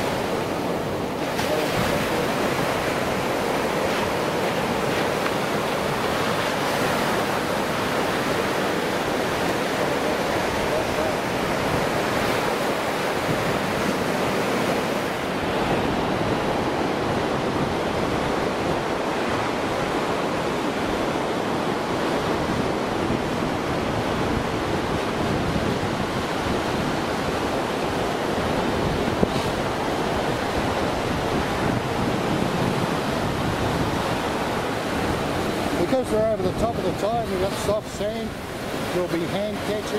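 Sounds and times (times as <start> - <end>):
surf washing onto sandy beach: 0.0 - 39.9
wind buffeting microphone: 0.0 - 39.9.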